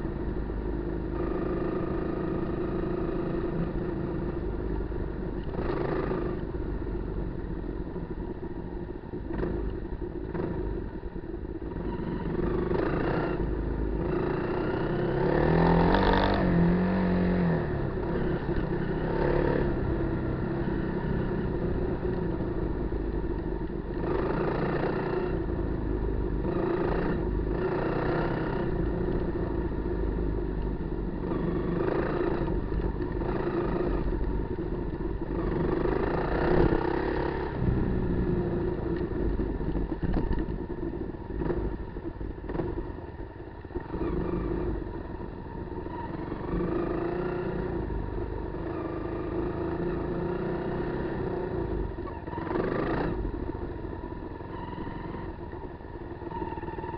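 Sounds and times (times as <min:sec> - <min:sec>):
motorcycle engine revving: 0:01.0 - 0:07.5, 0:11.6 - 0:56.9.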